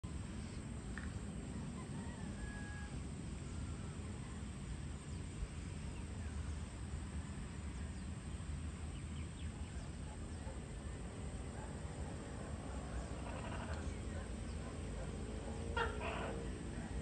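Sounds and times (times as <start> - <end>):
steady low rumble: 0.0 - 17.0
faint bird chirps: 0.3 - 16.6.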